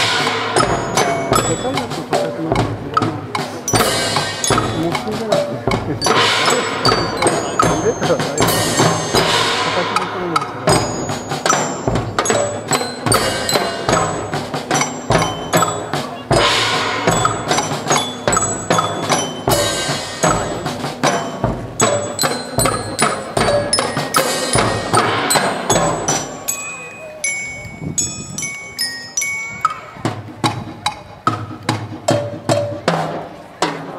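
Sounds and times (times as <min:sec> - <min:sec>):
ringing metal percussion: 0:00.0 - 0:31.2
drum beats: 0:00.0 - 0:33.9.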